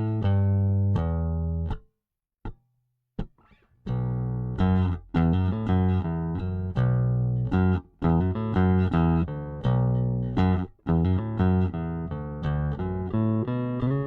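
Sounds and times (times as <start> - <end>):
electric bass guitar plucking: 0.0 - 1.8, 3.2 - 14.0.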